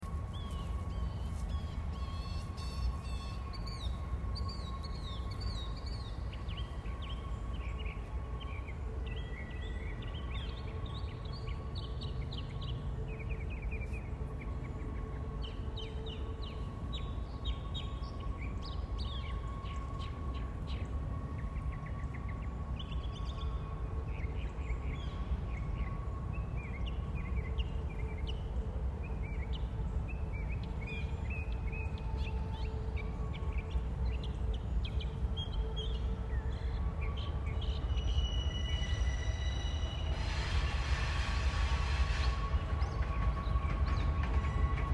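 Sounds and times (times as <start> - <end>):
birds chirping and singing: 0.0 - 44.9.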